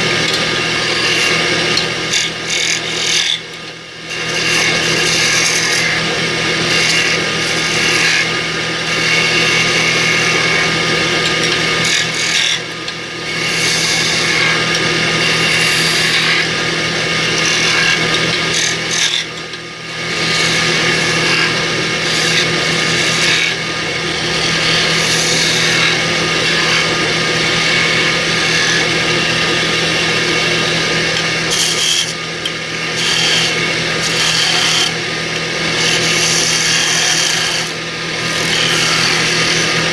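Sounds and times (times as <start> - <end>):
lathe hum: 0.0 - 39.9
chisel scraping on wood lathe: 0.2 - 39.9.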